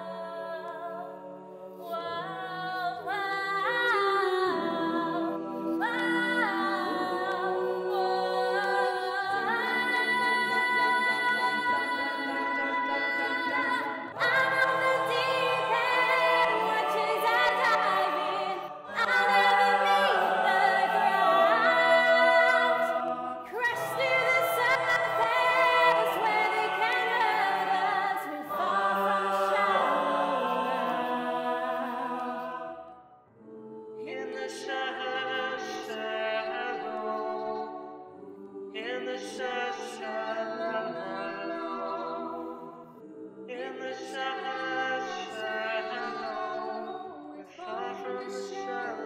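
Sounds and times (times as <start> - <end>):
choir singing a cappella: 0.0 - 49.0.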